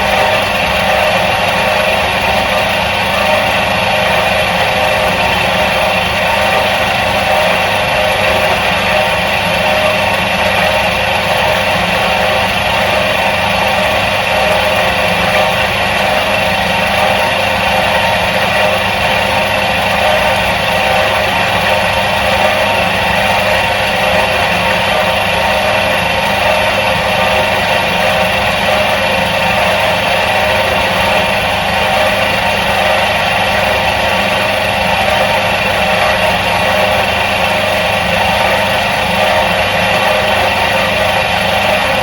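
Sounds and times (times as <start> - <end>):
washing machine motor humming: 0.0 - 42.0.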